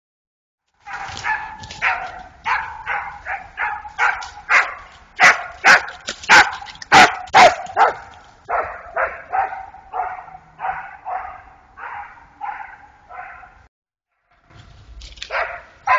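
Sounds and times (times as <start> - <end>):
dog barking: 0.8 - 13.7, 15.3 - 15.9.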